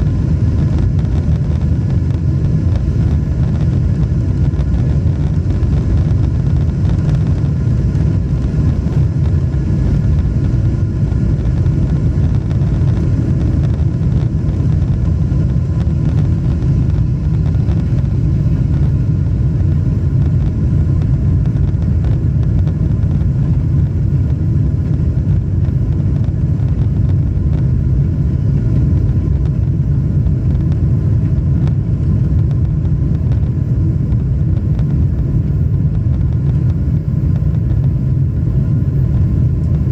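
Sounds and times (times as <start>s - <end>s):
jet engines and air rushing: 0.0s - 39.9s.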